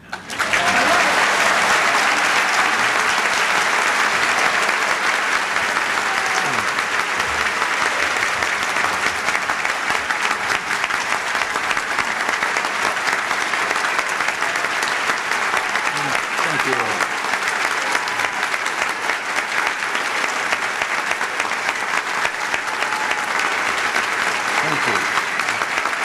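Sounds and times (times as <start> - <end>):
audience applause: 0.0 - 26.0.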